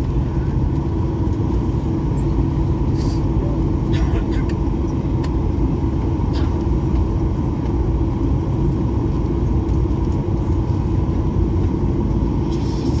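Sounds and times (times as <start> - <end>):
airliner engine rumble and hum: 0.0 - 13.0.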